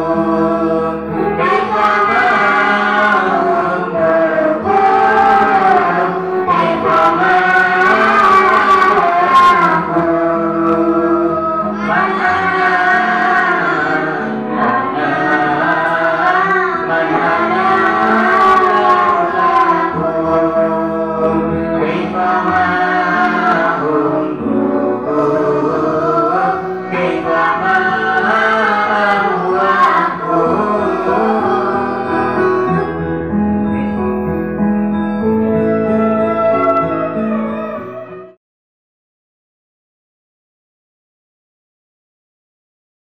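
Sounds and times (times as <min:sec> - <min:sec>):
children and man singing: 0:00.0 - 0:33.0, 0:35.6 - 0:38.4
instrumental backing: 0:00.0 - 0:38.4.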